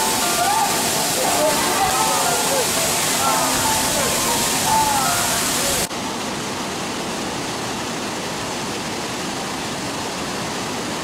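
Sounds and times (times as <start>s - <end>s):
river rapids rushing: 0.0s - 10.9s
waterfall rushing: 0.0s - 11.0s.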